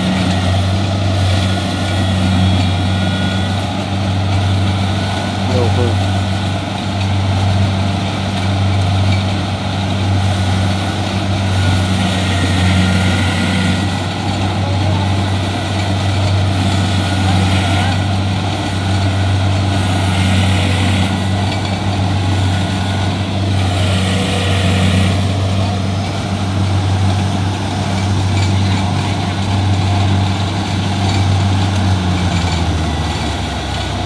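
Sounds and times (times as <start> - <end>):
diesel engine humming: 0.0 - 34.0.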